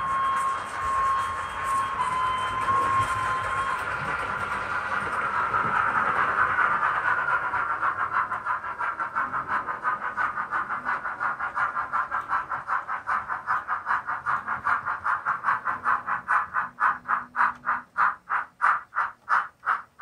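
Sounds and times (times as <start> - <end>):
model steam locomotive chuffs: 0.0 - 20.0.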